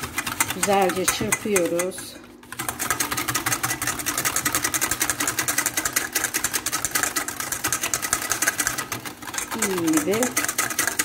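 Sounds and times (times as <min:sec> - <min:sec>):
whisk clicking against bowl: 0:00.0 - 0:11.0.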